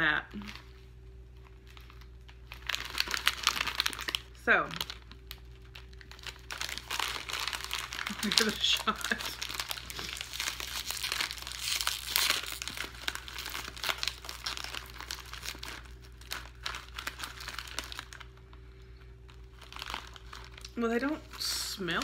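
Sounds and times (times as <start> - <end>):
plastic snack bag crackling: 0.3 - 22.0.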